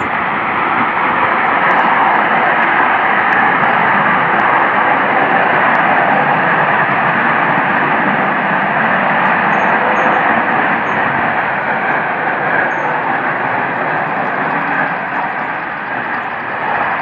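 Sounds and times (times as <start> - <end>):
rushing roar from the sky: 0.0 - 17.0.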